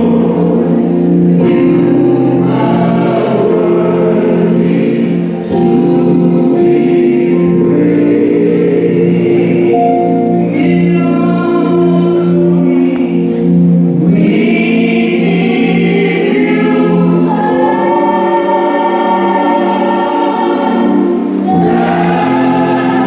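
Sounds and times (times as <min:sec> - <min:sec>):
group singing in harmony: 0:00.0 - 0:23.0.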